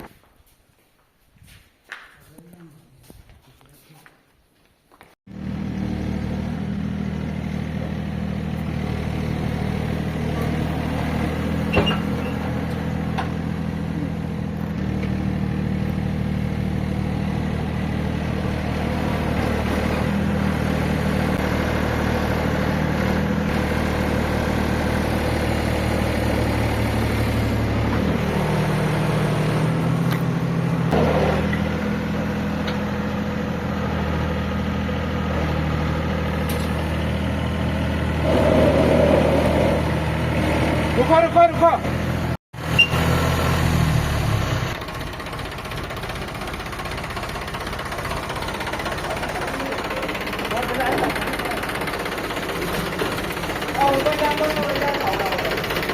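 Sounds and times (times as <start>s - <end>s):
farm machine diesel engine: 5.3s - 55.9s.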